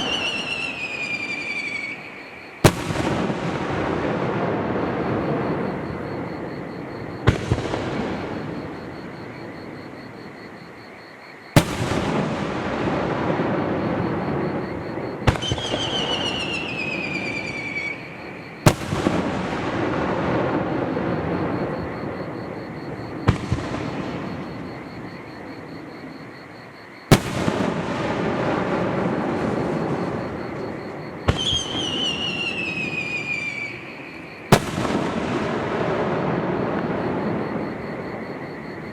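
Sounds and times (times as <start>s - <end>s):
descending firework whistle: 0.0s - 9.4s, 11.6s - 25.2s, 27.1s - 38.4s
fireworks booming with echo: 0.0s - 10.6s, 11.5s - 38.9s.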